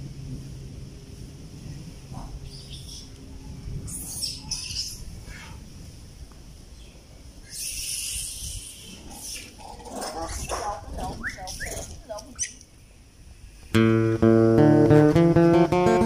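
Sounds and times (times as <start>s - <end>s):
low outdoor rumble: 0.0s - 16.0s
steady low hum: 0.0s - 16.0s.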